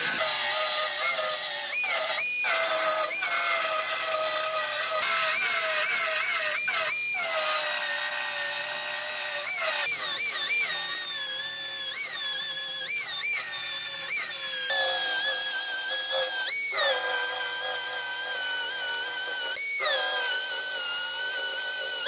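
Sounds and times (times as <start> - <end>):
pneumatic tool whining: 0.0 - 22.0.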